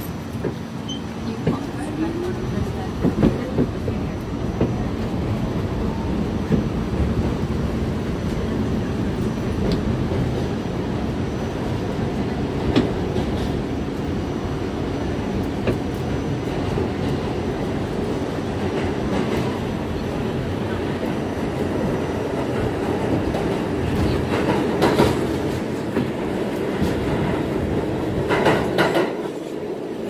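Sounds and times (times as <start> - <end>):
subway train wheels rumbling: 0.0 - 30.0.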